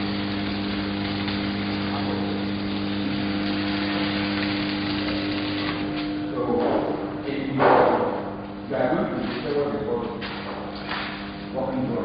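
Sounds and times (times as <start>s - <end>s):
welding arc crackling: 0.0s - 12.0s
welding machine hum: 0.0s - 12.0s.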